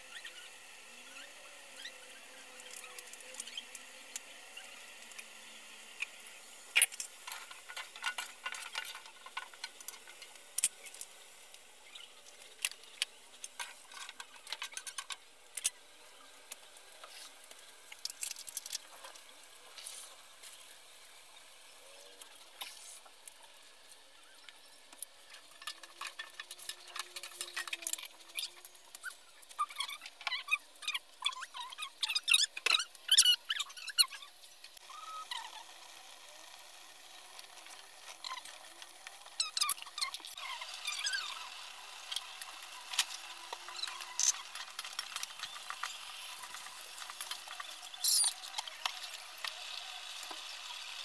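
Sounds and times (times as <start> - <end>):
faint frying sizzle: 0.0 - 51.0.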